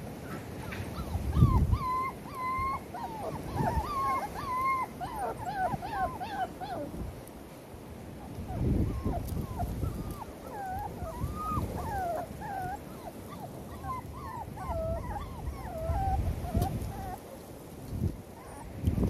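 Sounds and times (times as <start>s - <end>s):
puppies whimpering and whining: 0.0s - 7.2s, 8.2s - 17.6s, 18.2s - 18.9s.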